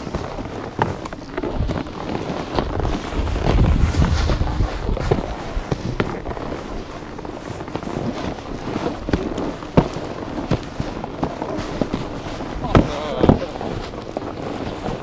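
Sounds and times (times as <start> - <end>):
snowboards and boots crunching snow: 0.0 - 15.0
wind buffeting microphone: 0.0 - 15.0.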